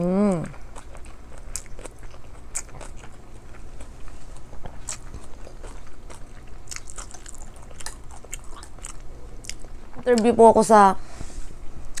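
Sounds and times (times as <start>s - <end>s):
chewing and wet mouth sounds: 0.2s - 10.3s.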